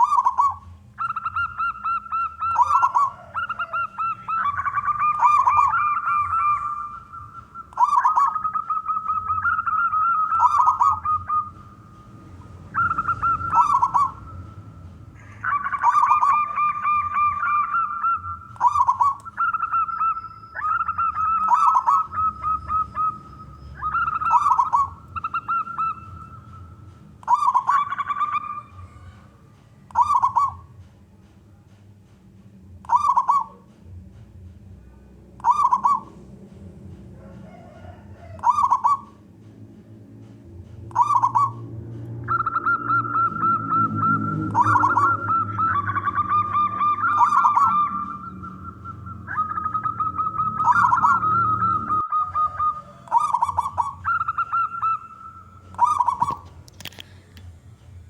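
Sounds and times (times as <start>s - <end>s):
doves cooing: 0.0s - 30.9s, 32.8s - 34.2s, 34.9s - 58.0s.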